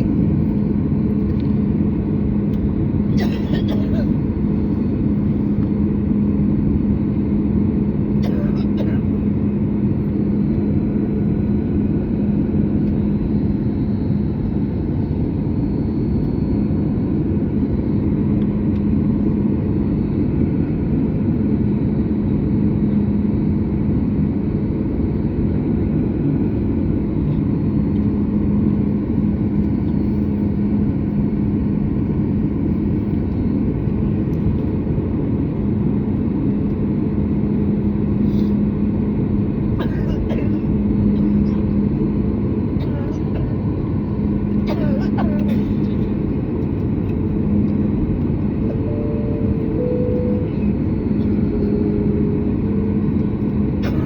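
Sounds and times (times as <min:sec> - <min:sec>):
cabin air system hum: 0:00.0 - 0:54.0
jet engines idling: 0:00.0 - 0:54.0.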